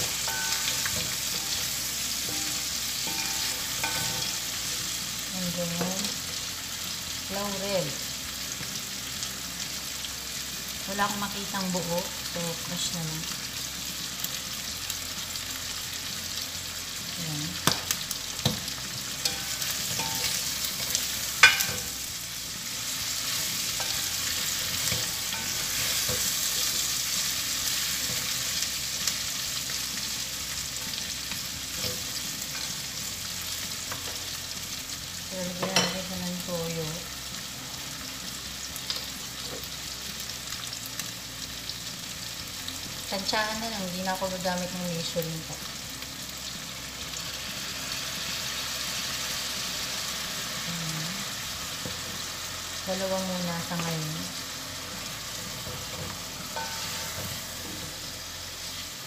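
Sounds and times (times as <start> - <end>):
chicken feet sizzling in pot: 0.0 - 59.0.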